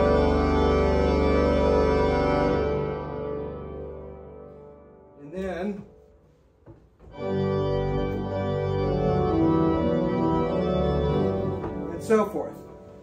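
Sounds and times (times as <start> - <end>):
pipe organ chords: 0.0 - 6.3, 7.1 - 13.0.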